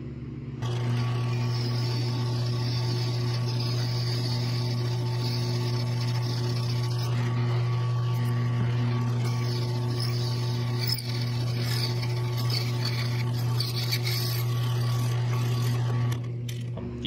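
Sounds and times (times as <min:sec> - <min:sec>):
drill press motor hum: 0:00.0 - 0:17.0
drill bit cutting steel: 0:00.6 - 0:16.3.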